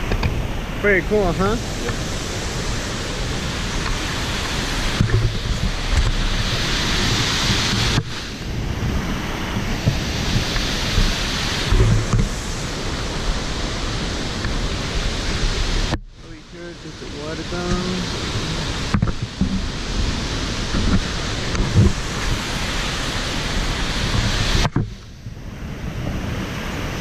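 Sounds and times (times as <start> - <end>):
waterfall rushing: 0.0 - 27.0
wind buffeting microphone: 0.0 - 27.0.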